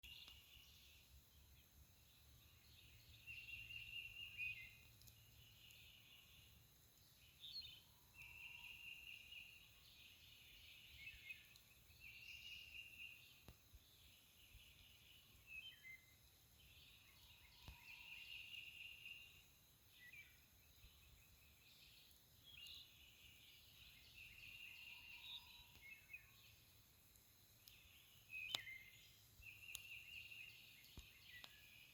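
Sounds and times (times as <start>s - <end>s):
birds chirping: 0.0s - 26.7s, 27.6s - 31.9s.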